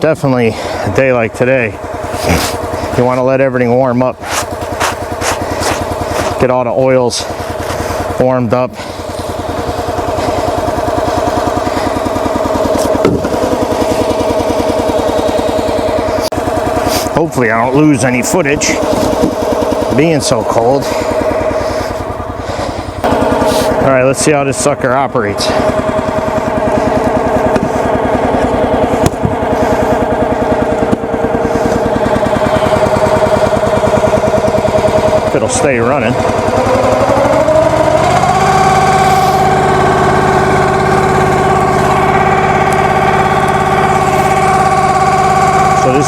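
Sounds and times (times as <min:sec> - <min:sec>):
small gasoline engine chugging: 0:00.0 - 0:46.0.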